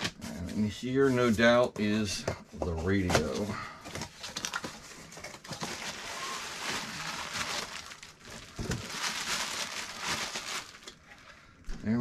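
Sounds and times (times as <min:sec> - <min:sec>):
cardboard and packaging rustling: 0:00.0 - 0:11.3.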